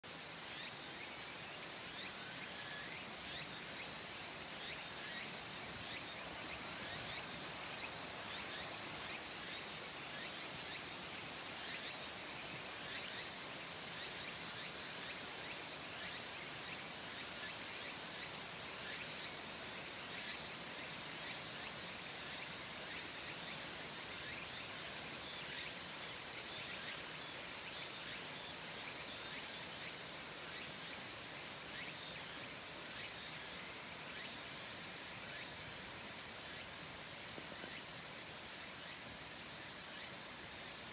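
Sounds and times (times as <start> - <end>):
cicada chirring: 0.2 - 40.9.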